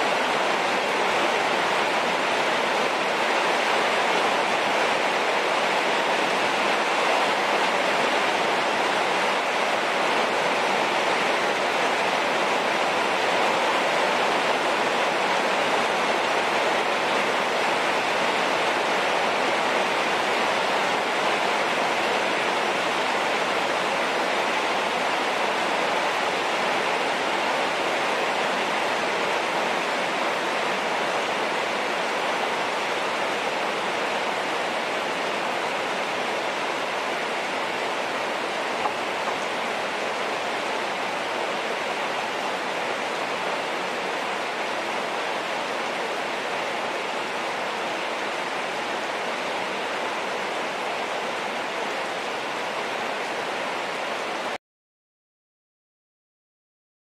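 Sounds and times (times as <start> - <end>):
heavy rain hiss: 0.0 - 54.6.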